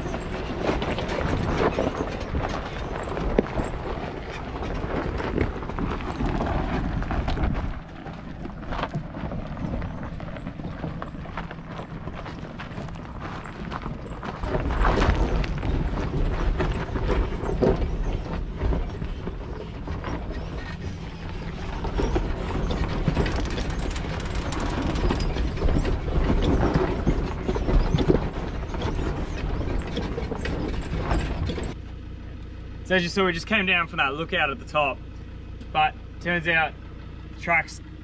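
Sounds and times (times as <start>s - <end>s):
trailer knocks and rattles: 0.0s - 31.8s
vehicle engine low rumble: 0.0s - 38.0s.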